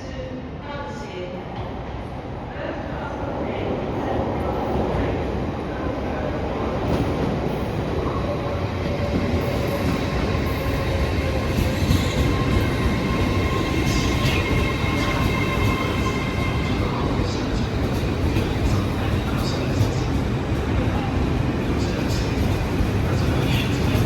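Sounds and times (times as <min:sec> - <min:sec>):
train rumbling: 0:00.4 - 0:24.0.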